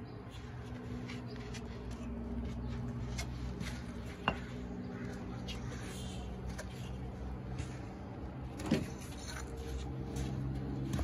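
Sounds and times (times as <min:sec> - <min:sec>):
concrete pavers clicking: 0:00.3 - 0:11.0.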